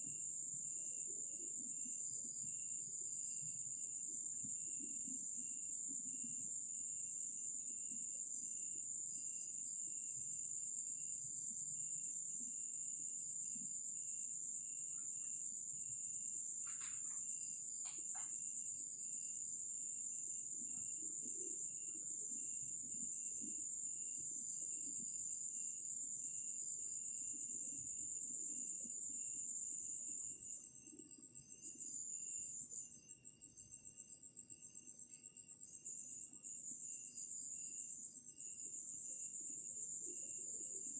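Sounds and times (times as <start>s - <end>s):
cricket chirping: 0.0s - 40.9s
high-pitched insect trill: 0.0s - 40.9s.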